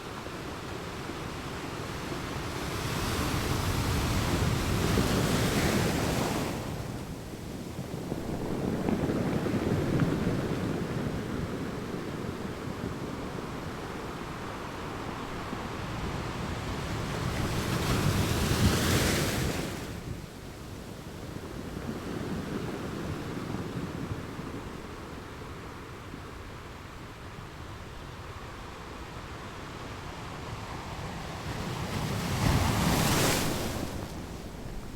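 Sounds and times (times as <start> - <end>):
ocean waves surf: 0.0 - 20.4, 21.2 - 34.9.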